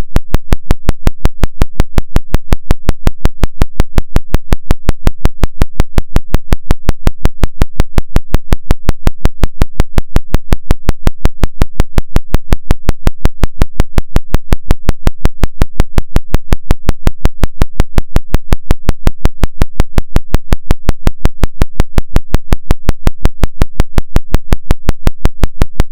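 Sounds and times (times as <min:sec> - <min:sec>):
pulsing low tone: 0:00.0 - 0:25.9.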